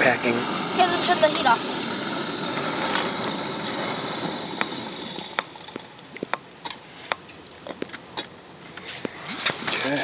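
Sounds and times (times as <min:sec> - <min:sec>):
stove burner hiss: 0:00.0 - 0:10.0.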